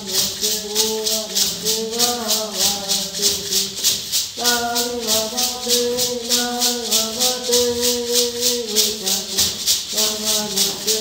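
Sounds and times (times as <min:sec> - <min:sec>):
maracas shaking: 0:00.0 - 0:11.0.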